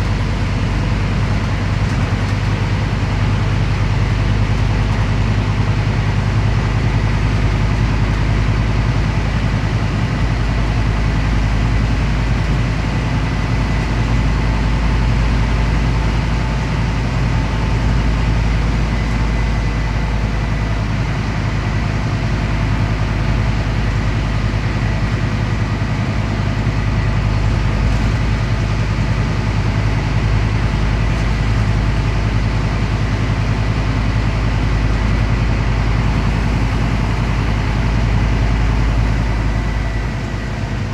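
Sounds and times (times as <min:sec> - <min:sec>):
bus engine drone: 0:00.0 - 0:40.9
road and tyre rumble: 0:00.0 - 0:40.9.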